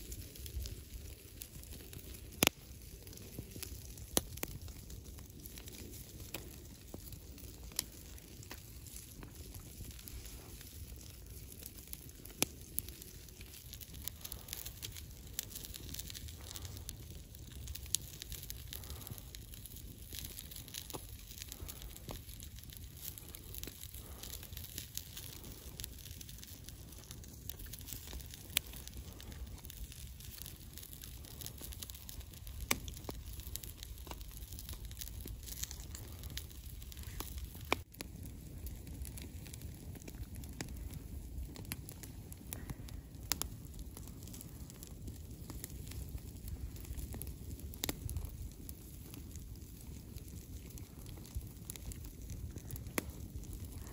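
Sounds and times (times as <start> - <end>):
campfire crackling: 0.0 - 53.9
fire popping: 0.0 - 53.9.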